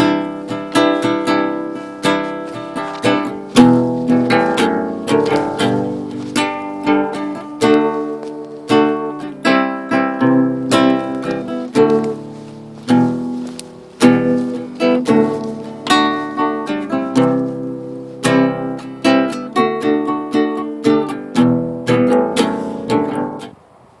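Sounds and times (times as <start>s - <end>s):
solo guitar chords: 0.0s - 23.6s.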